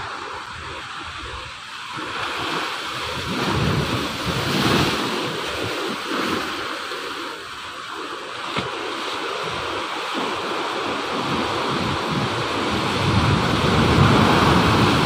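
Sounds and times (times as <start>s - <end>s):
sea waves breaking on beach: 0.0s - 15.0s
wind rumble on microphone: 0.0s - 15.0s.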